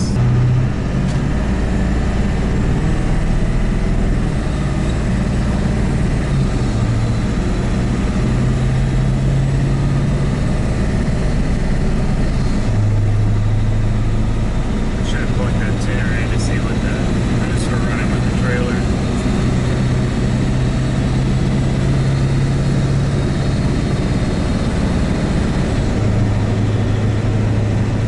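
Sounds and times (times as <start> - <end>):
diesel engine drone from inside cab: 0.0 - 28.0.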